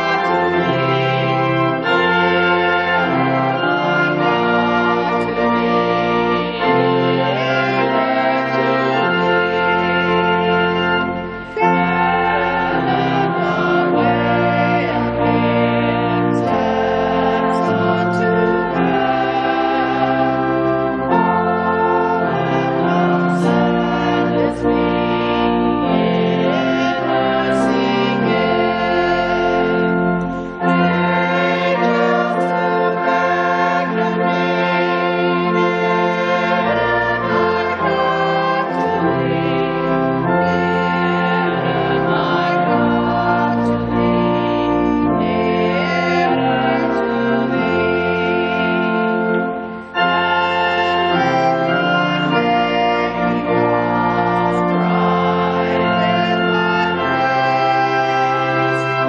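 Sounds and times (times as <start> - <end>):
slow church music chords: 0.0 - 59.0.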